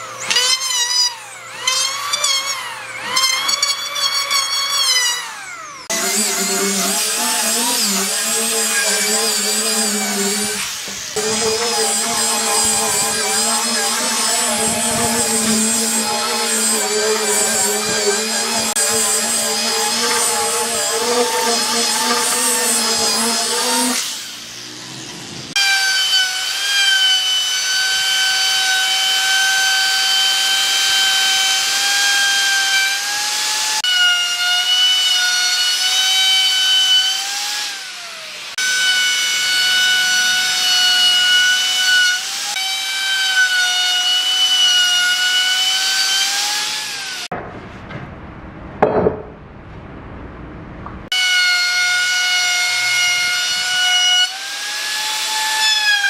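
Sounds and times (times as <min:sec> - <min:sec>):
angle grinder sanding wood: 0:00.0 - 0:47.3, 0:51.2 - 0:56.0
electric router whining: 0:00.0 - 0:47.3.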